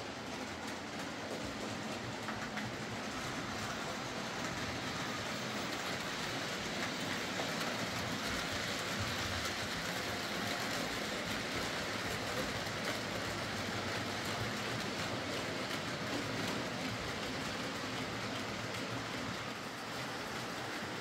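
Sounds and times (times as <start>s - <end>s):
model train wheels rumbling on rails: 0.0s - 21.0s.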